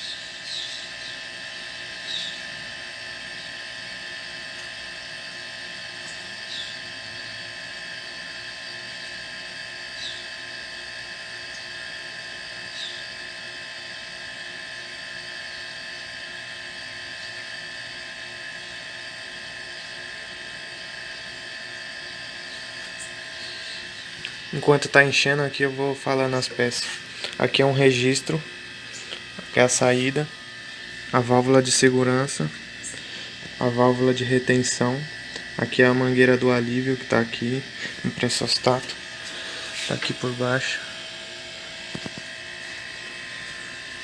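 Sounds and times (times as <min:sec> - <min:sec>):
air compressor humming and whining: 0:00.0 - 0:44.0.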